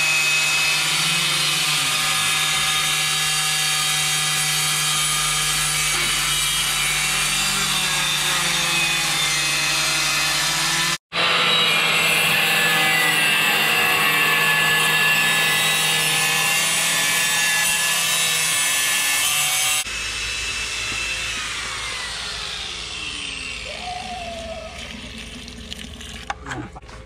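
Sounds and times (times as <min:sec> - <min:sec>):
angle grinder cutting tile: 0:00.0 - 0:23.8.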